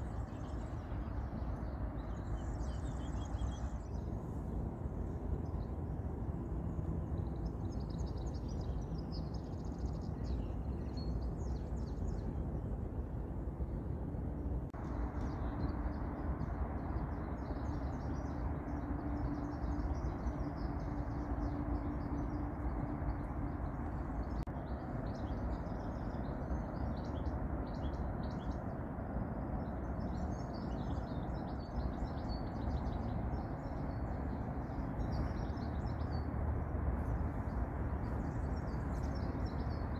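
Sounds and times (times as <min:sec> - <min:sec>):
low background rumble: 0:00.0 - 0:39.9.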